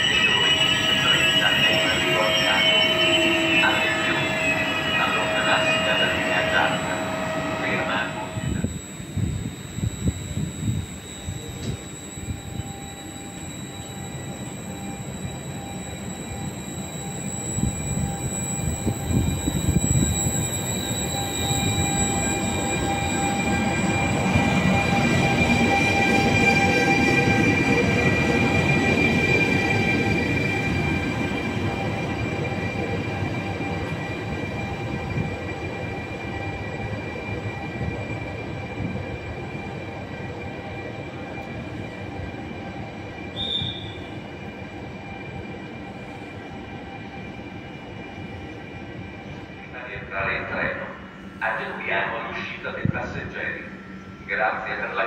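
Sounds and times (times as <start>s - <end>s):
high-pitched whine: 0.0s - 55.0s.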